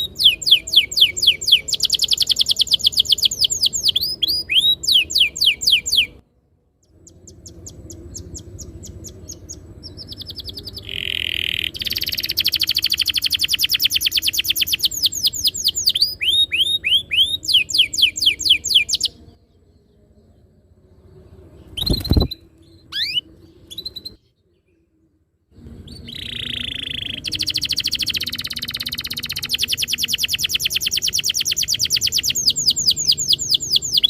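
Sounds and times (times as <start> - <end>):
canary singing trills: 0.0 - 6.2, 6.8 - 24.8, 25.6 - 34.0.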